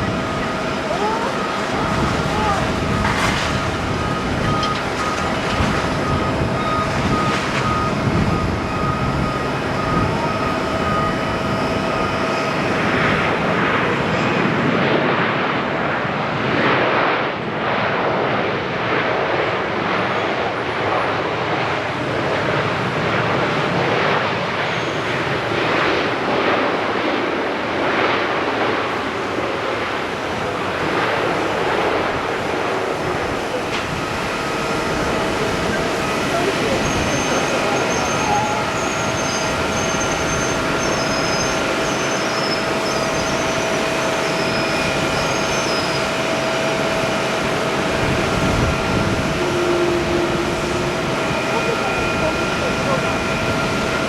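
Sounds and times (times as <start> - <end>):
high engine whine: 0.0 - 54.0
jet engines running: 0.0 - 54.0.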